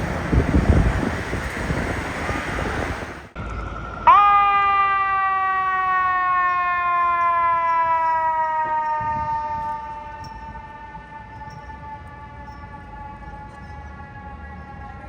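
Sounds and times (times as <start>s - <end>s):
fire truck siren winding down: 0.0s - 15.0s.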